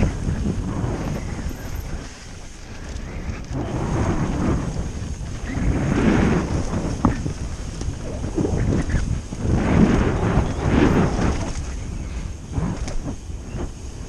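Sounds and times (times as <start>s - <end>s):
bike tyres rumbling on dirt trail: 0.0s - 14.0s
wind buffeting microphone: 0.0s - 14.0s.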